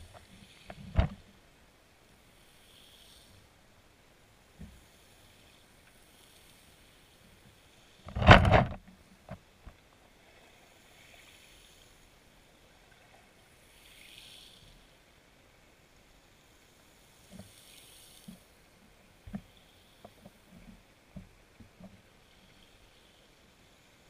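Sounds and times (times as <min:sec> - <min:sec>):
faint underwater hiss: 0:00.0 - 0:24.0.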